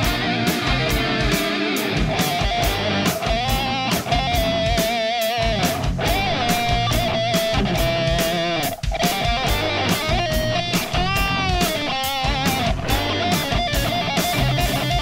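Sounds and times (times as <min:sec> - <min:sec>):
electric guitar lead notes: 0:00.0 - 0:15.0
steady drum beat: 0:00.0 - 0:15.0.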